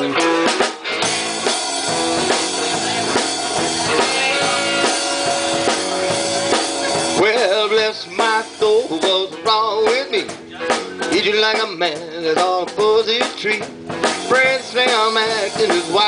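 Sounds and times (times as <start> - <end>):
drum kit beat: 0.0 - 16.0
electric guitar: 0.0 - 16.0
live band playing: 0.0 - 16.0.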